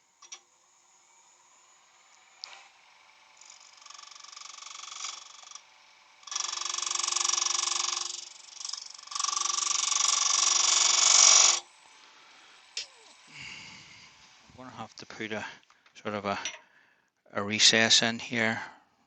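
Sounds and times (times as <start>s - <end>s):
lathe tool cutting wood: 0.0s - 15.4s
motor hum: 0.0s - 16.4s.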